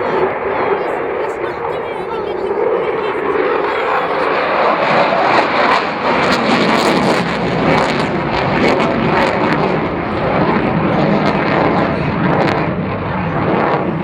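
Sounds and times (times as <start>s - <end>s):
loud jet roar: 0.0s - 14.0s.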